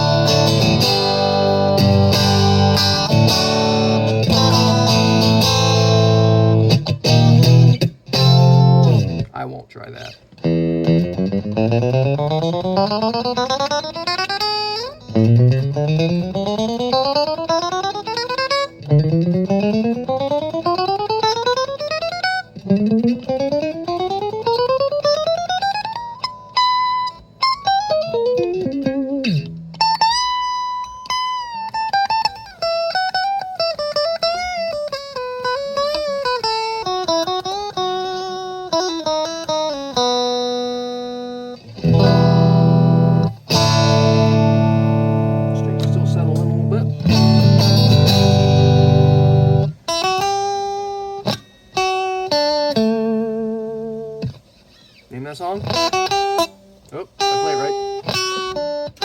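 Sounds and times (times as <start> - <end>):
electric guitar through amplifier: 0.0 - 9.3, 10.0 - 59.0.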